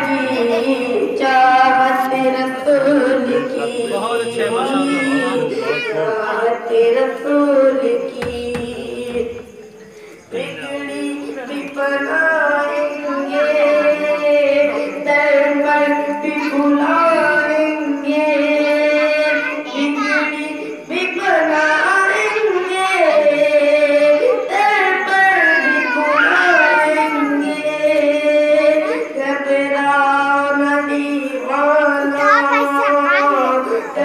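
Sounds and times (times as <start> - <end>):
devotional song in a high voice: 0.0 - 34.0.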